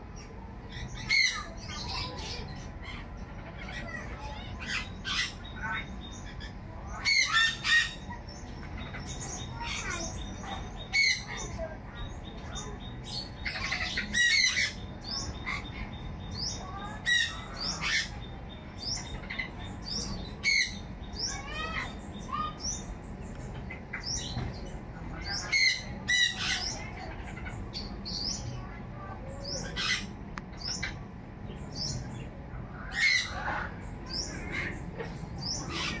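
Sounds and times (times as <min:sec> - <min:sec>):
birds chirping: 0:00.0 - 0:36.0
birds squawking harshly: 0:00.1 - 0:36.0.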